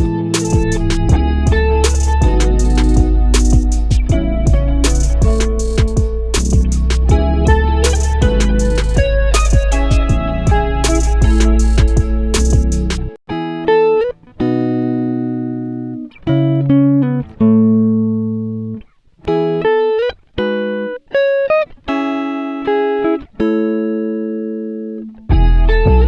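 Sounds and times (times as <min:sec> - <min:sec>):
clean guitar playing: 0:00.0 - 0:26.0.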